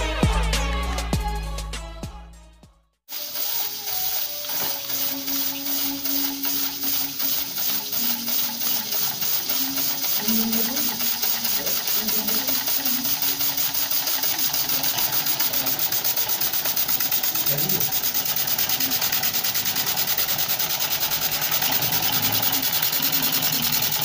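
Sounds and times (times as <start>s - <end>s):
steam engine chuffing: 3.1s - 24.0s.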